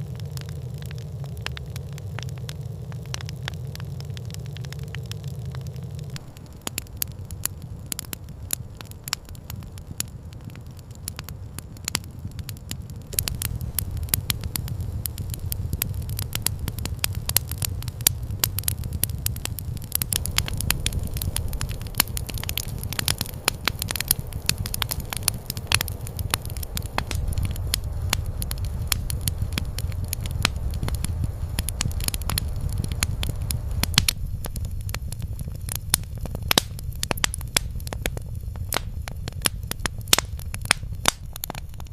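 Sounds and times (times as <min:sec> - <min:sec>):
campfire crackling: 0:00.0 - 0:41.9
low rumble: 0:00.0 - 0:41.9.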